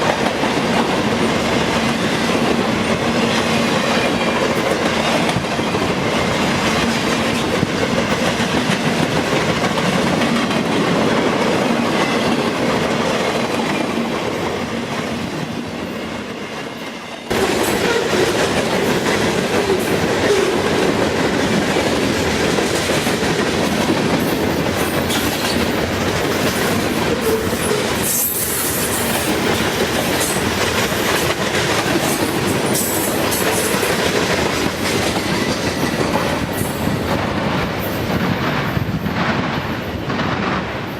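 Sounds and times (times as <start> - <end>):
train wheels clicking over rail joints: 0.0 - 15.1, 16.4 - 40.9.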